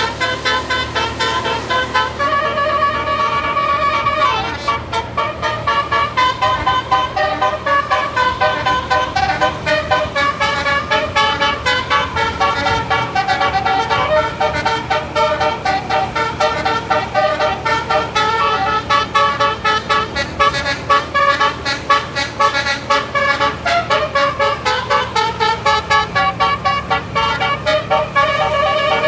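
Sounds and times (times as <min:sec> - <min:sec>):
musical air horn playing a tune: 0:00.0 - 0:29.0.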